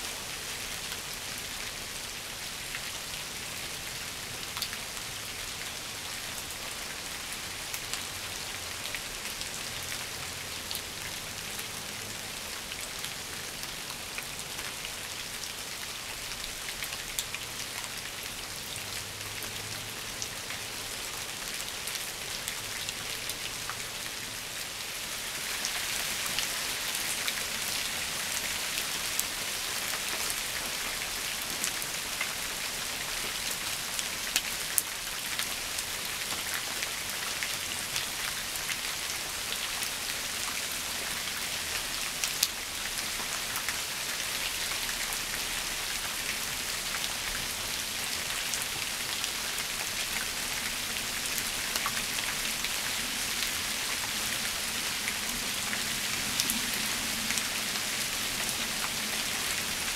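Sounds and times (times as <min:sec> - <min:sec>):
rain on shrubs and leaves: 0:00.0 - 0:59.9.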